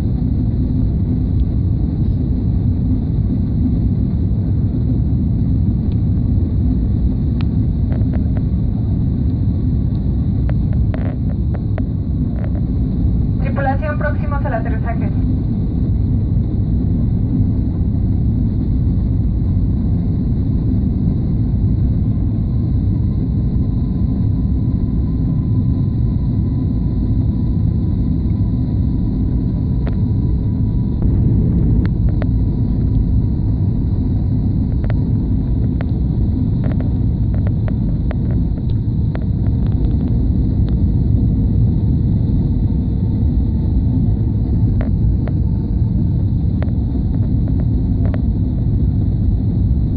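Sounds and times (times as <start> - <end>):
airliner cabin rumble: 0.0 - 49.9
faint steady whine: 0.0 - 49.9.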